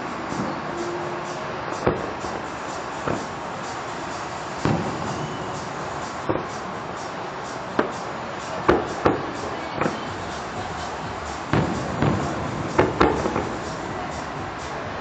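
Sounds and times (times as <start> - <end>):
fireworks shells bursting: 0.0 - 14.8
steady background hiss: 0.0 - 15.0.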